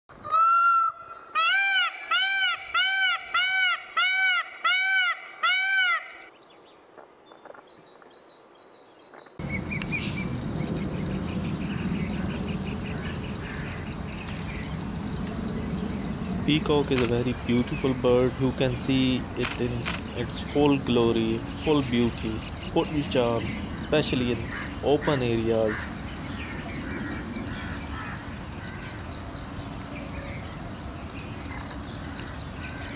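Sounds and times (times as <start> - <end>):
outdoor background hiss and rumble: 0.1 - 32.9
peacock calling: 0.2 - 6.3, 9.4 - 30.5.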